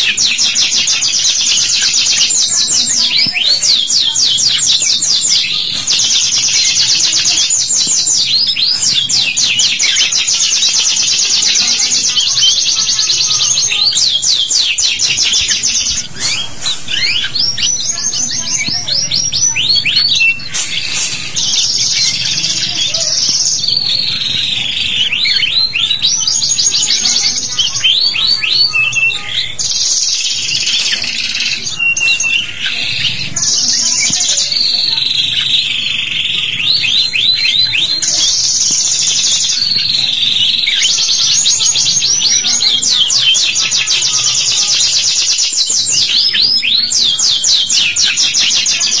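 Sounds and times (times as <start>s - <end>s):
canary singing trilled song: 0.0s - 49.0s.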